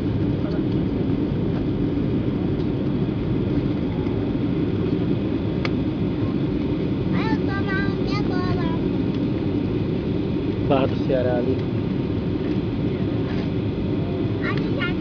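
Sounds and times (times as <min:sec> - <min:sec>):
jet engine hum: 0:00.0 - 0:15.0.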